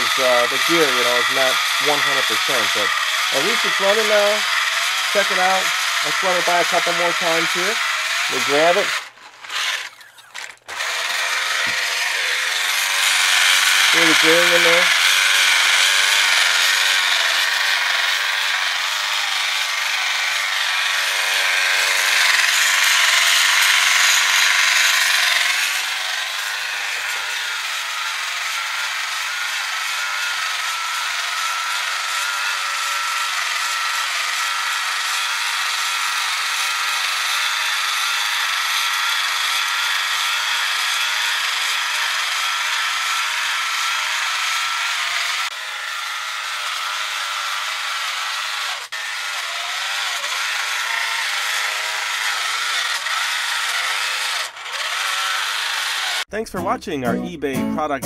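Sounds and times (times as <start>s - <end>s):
toy motor and gears whirring: 0.0s - 56.3s.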